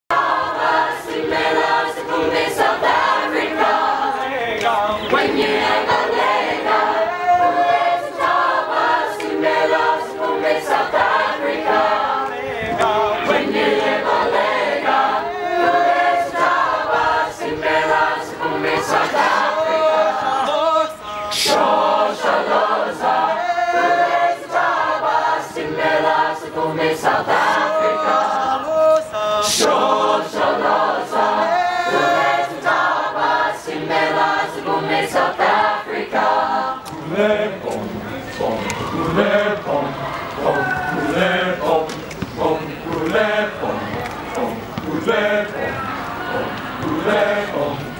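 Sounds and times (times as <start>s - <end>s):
children's choir singing a cappella: 0.1s - 47.9s.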